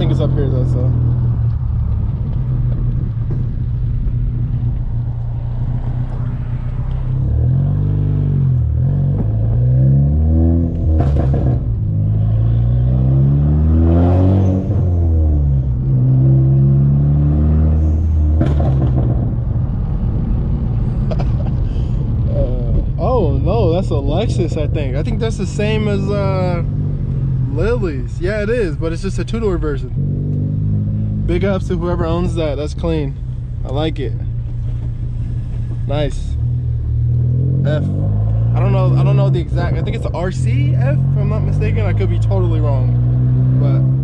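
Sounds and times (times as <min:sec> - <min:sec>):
exhaust cracks: 0:00.0 - 0:12.0, 0:17.8 - 0:44.0
car engine revving: 0:00.0 - 0:44.0.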